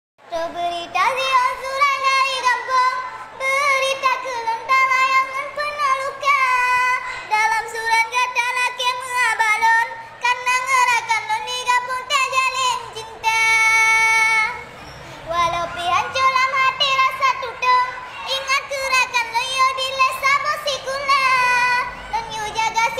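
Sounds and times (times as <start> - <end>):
high-pitched voice singing: 0.3 - 14.6, 15.2 - 22.9.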